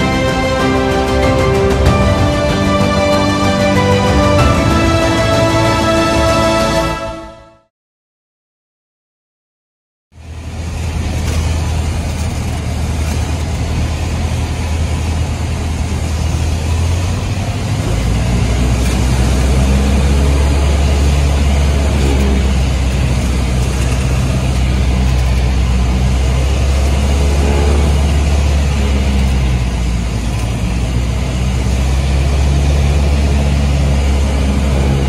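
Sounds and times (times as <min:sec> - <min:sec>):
propeller plane engine drone: 0:00.0 - 0:06.7, 0:10.2 - 0:35.0.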